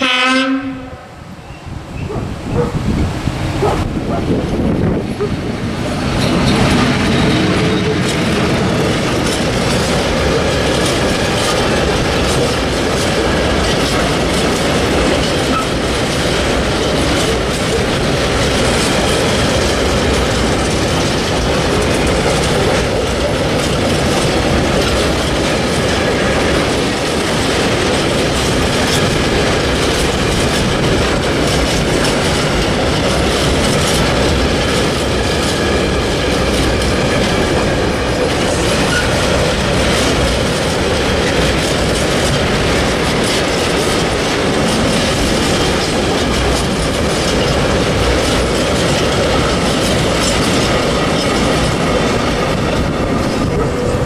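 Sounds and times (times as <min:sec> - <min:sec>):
freight train rolling past: 0:00.0 - 0:54.0
wheels clicking over rail joints: 0:03.5 - 0:54.0.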